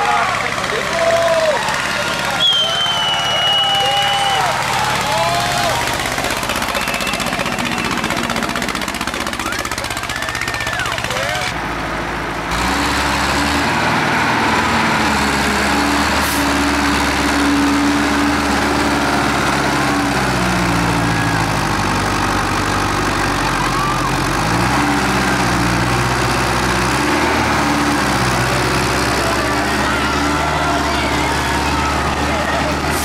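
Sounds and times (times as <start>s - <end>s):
tractor diesel engine revving: 0.0s - 33.0s.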